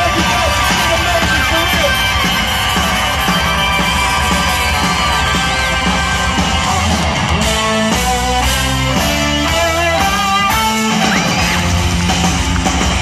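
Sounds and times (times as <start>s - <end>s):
live band playing loudly: 0.0s - 13.0s.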